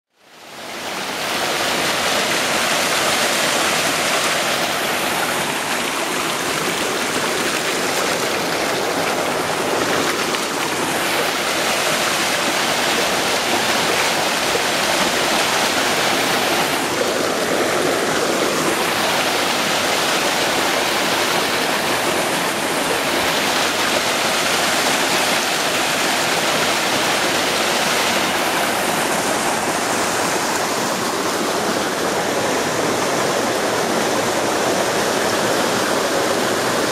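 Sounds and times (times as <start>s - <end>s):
creek rushing over rocks: 0.2s - 36.9s.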